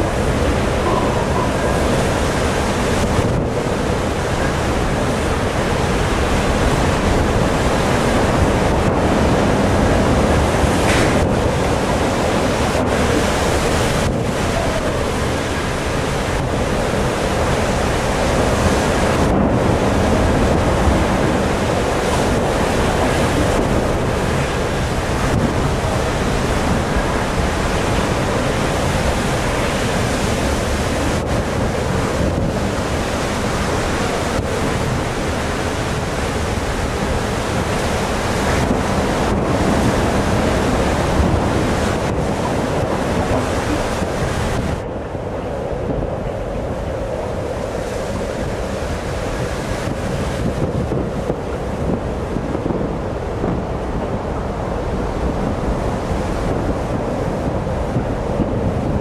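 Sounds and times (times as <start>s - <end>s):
rough sea rushing: 0.0s - 59.0s
wind buffeting microphone: 0.0s - 59.0s.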